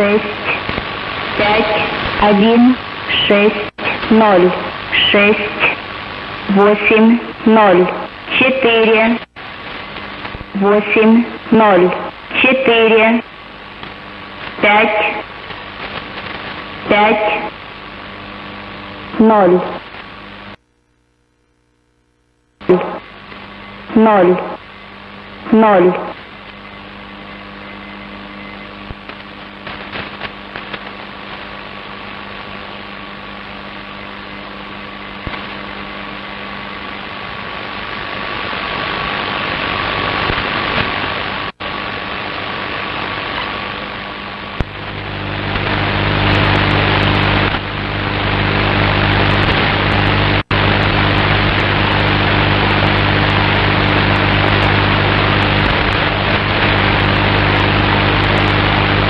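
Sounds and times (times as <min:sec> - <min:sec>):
low buzzing hum: 0:00.0 - 0:59.0
radio static hiss: 0:00.0 - 0:59.0.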